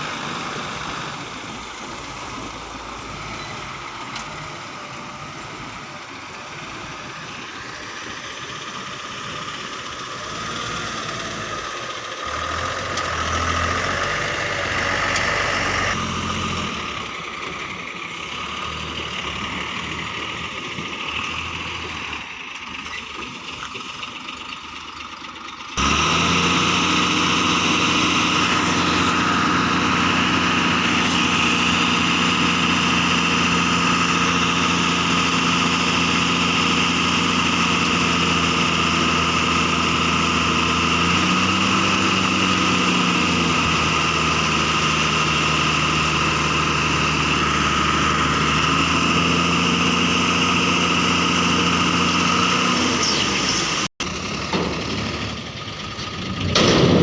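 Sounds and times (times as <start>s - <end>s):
backhoe diesel engine working: 0.0s - 57.0s.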